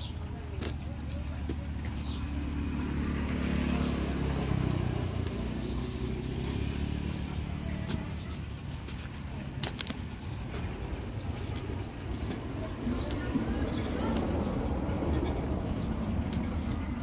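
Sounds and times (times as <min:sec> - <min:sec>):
motor engine humming: 0:00.3 - 0:17.0.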